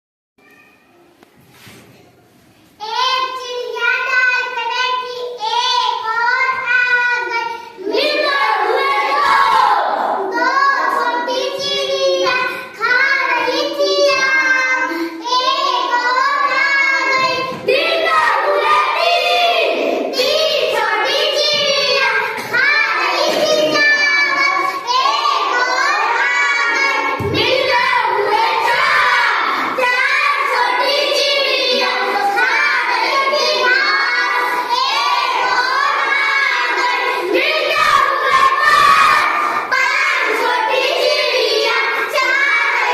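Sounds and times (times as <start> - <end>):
child singing: 2.8 - 42.9.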